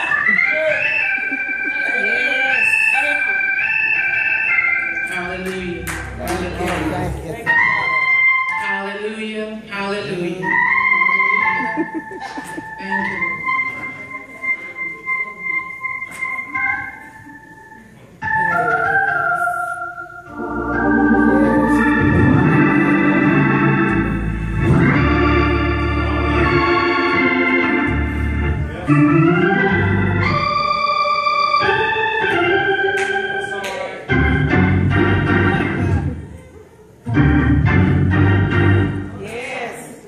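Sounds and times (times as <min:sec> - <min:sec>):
organ playing slow chords: 0:00.0 - 0:09.2, 0:09.9 - 0:36.4, 0:37.0 - 0:39.2.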